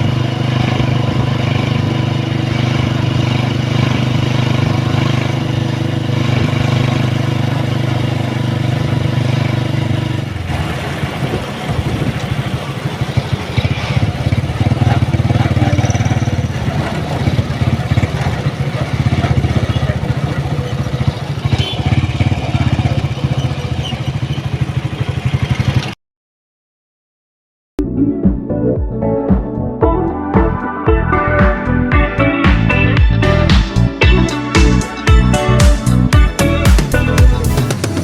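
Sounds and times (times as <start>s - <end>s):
vehicle engine running: 0.0s - 26.0s, 31.0s - 38.0s.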